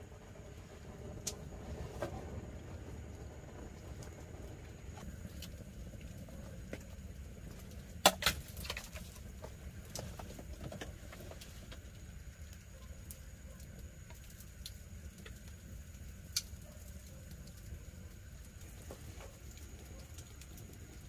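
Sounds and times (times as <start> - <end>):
campfire crackling: 0.0 - 21.0
low steady rumble: 0.0 - 21.0.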